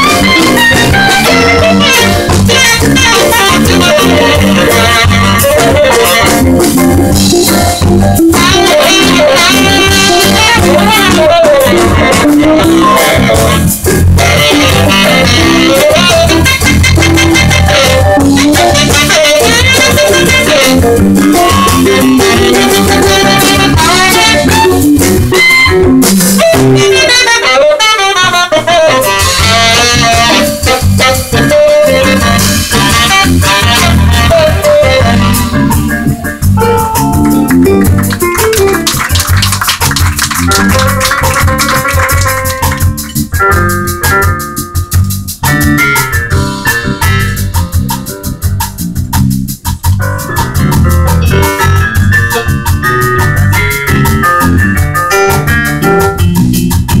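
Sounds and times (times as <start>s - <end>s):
walking bass: 0.0s - 27.4s, 28.1s - 57.0s
drum kit: 0.0s - 57.0s
jazz band playing: 0.0s - 57.0s
saxophone lead line: 0.0s - 57.0s.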